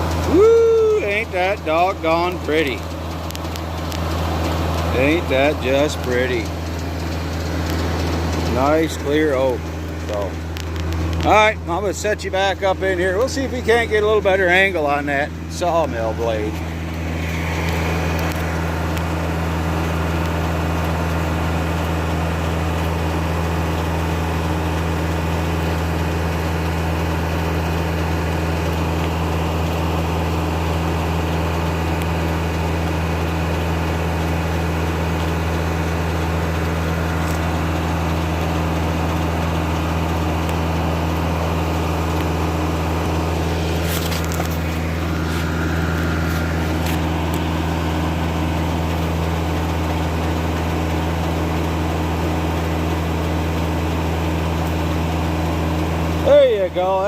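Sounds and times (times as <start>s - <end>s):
circular sawmill: 0.0s - 57.0s
tractor diesel engine running: 0.0s - 57.0s.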